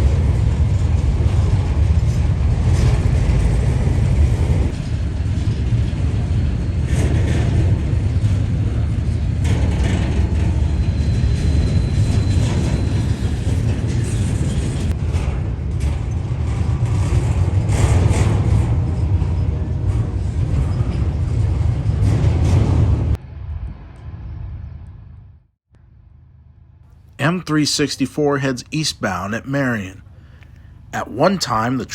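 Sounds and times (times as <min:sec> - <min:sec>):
freight train rumble: 0:00.0 - 0:25.2, 0:27.2 - 0:31.9.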